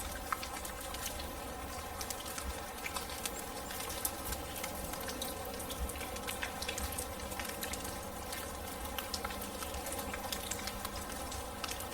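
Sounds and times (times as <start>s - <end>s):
rain drops pattering: 0.0s - 11.9s.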